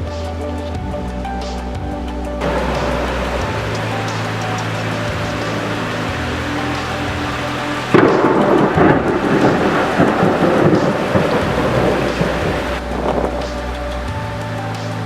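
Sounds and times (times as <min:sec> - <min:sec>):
steady rain: 0:02.4 - 0:15.0
thunder clap and rumble: 0:02.4 - 0:15.0.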